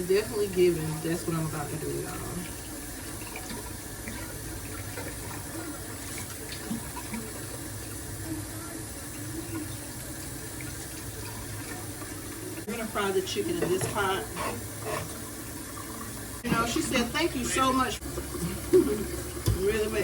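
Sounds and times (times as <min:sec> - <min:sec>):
water running from tap: 0:00.0 - 0:20.0.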